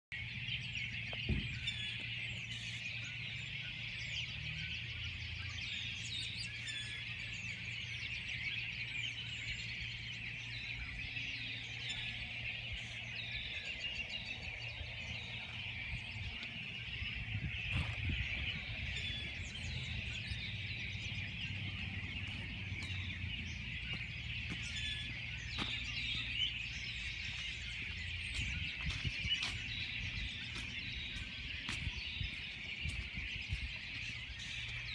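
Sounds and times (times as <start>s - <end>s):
chorus of birds chirping: 0.1s - 34.9s.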